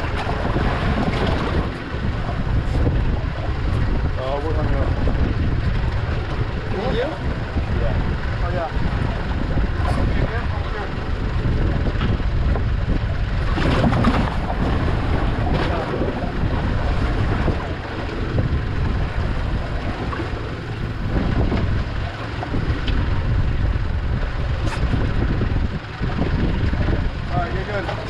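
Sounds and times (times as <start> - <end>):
boat at sea: 0.0 - 28.0
water rushing: 0.0 - 28.0
wind buffeting microphone: 0.0 - 28.0.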